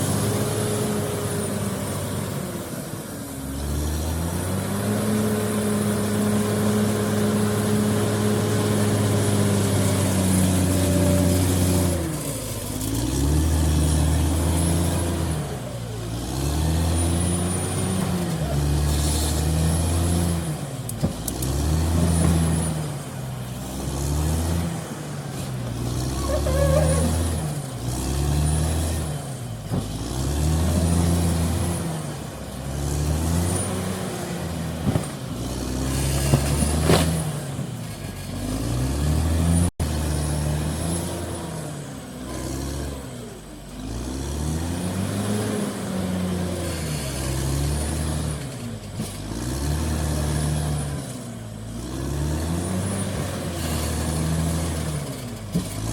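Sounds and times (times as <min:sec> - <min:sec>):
bulldozer engine under load: 0:00.0 - 0:55.9.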